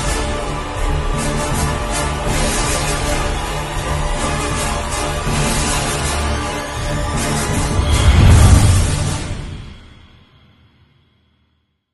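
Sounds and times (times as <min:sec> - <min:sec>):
background music: 0:00.0 - 0:11.2.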